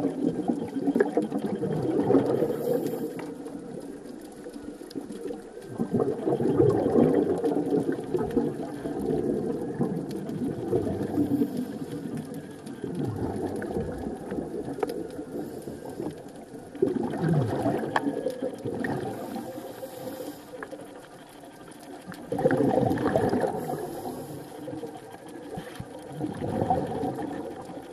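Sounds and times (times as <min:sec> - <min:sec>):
underwater regulator bubbles: 0:00.0 - 0:27.9.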